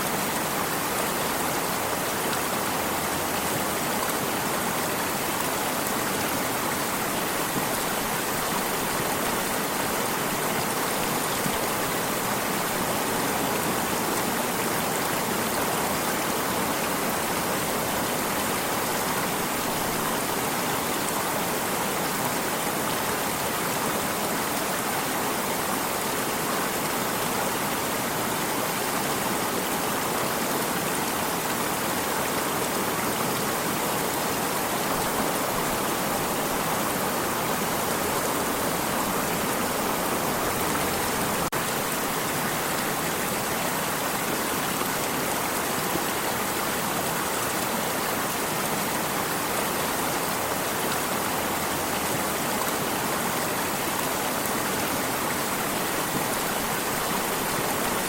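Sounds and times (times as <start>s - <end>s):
stream of running water: 0.0s - 58.0s.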